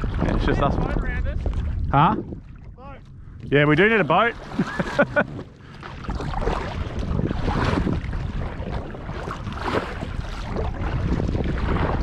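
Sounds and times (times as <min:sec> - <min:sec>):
water slapping hull: 0:00.0 - 0:12.0
wind buffeting microphone: 0:00.0 - 0:12.0
paddle strokes splashing: 0:01.3 - 0:12.0.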